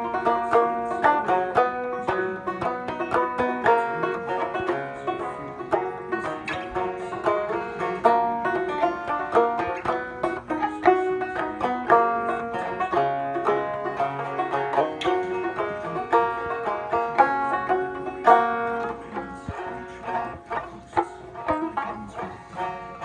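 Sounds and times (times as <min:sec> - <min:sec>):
plucked string instrument tune: 0:00.0 - 0:23.0.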